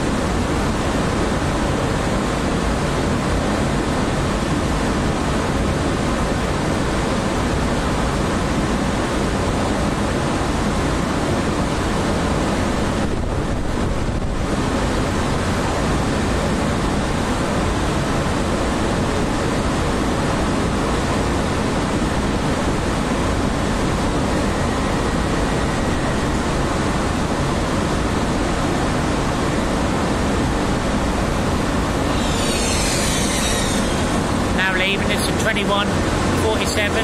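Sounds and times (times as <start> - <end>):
idling train rumble and hiss: 0.0 - 37.0.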